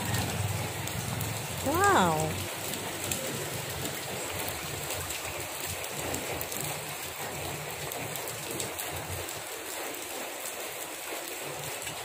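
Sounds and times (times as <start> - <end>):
rain on wet road: 0.0 - 12.0.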